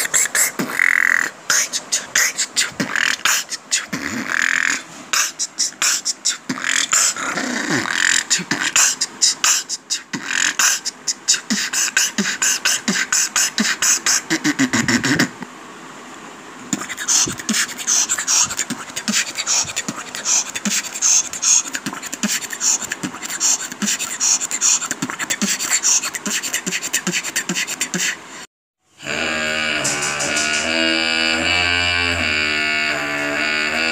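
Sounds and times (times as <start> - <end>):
person beatboxing: 0.0 - 15.5, 16.7 - 28.3, 29.0 - 33.9.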